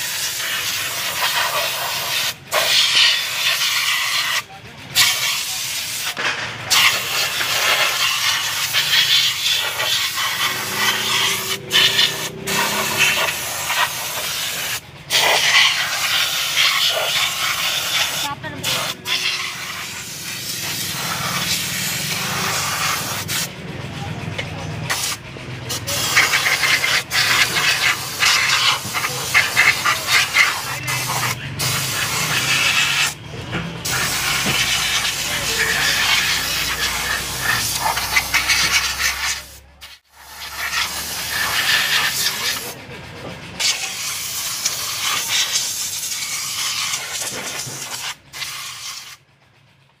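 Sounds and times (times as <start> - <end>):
pressure sprayer hissing: 0.0 - 23.6, 24.9 - 42.8, 43.6 - 49.2.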